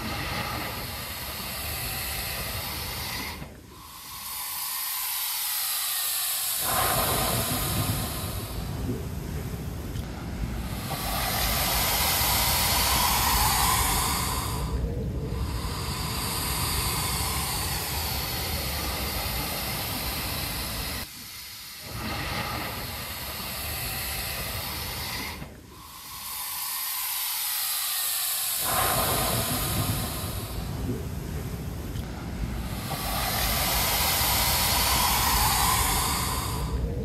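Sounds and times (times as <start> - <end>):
waves rumbling: 0.0 - 27.4, 28.0 - 37.0
air hissing through rock crack: 0.0 - 37.0.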